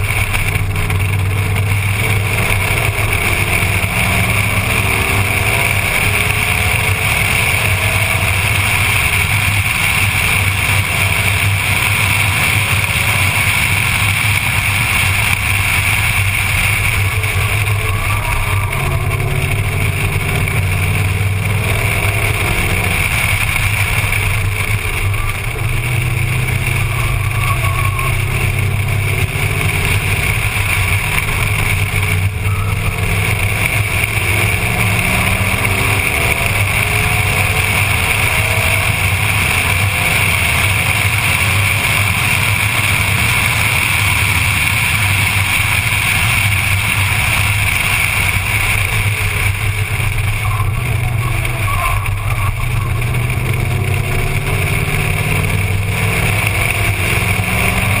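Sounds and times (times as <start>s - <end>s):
car engine accelerating and shifting: 0.0s - 58.0s.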